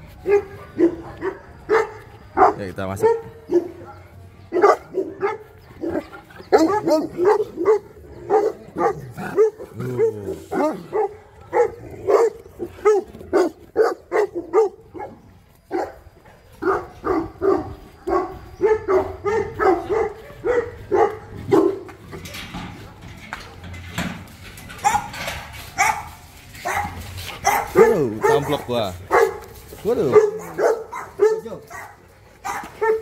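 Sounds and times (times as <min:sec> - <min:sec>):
dogs barking: 0:00.1 - 0:22.1, 0:24.7 - 0:33.0.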